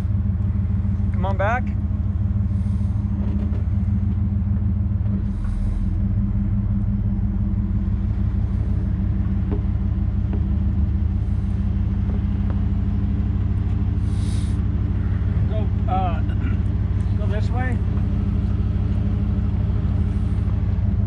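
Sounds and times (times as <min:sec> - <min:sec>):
pickup truck engine idling: 0:00.0 - 0:21.0.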